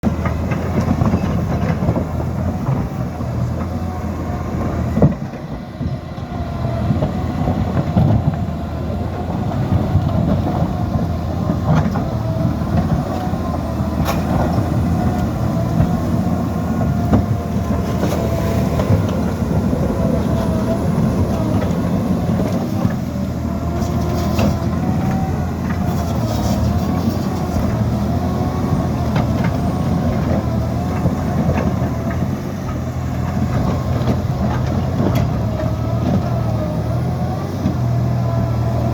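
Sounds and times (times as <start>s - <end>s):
bulldozer engine running: 0.0s - 38.9s.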